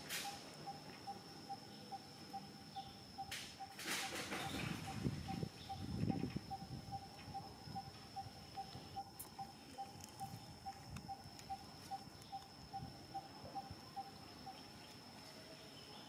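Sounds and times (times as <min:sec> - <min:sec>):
high insect whine: 0:00.0 - 0:16.0.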